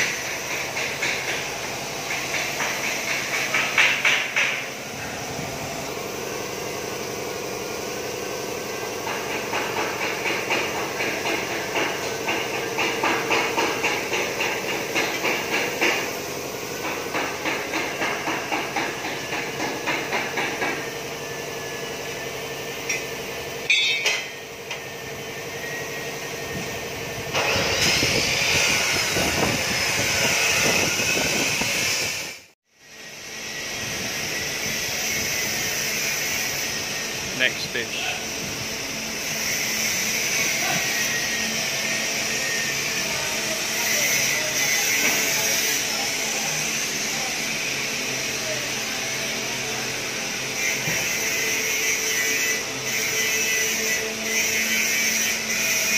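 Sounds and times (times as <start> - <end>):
steady machine hum: 0.0 - 55.9.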